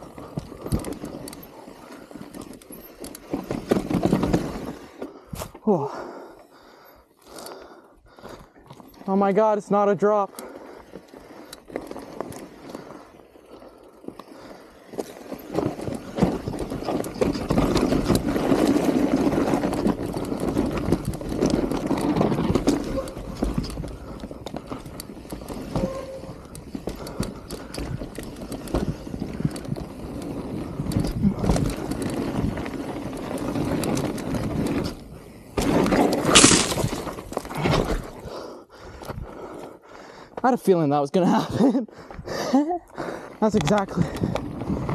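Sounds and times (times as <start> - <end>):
bike rattling over bumps: 0.0 - 44.9
bike tyres crunching over rocks: 0.0 - 44.9.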